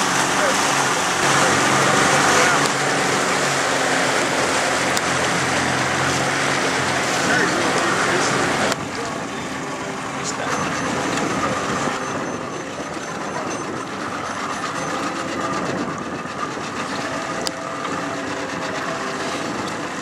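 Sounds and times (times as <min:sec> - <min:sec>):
boat engine rumbling: 0:00.0 - 0:20.0
water rushing: 0:00.0 - 0:20.0
wind: 0:00.0 - 0:20.0.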